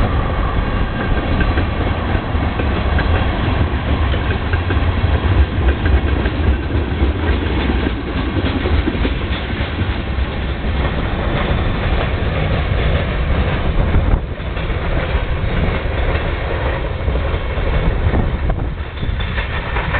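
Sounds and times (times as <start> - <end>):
freight train rumbling past: 0.0 - 19.9
wheels clattering over rail joints: 0.0 - 19.9.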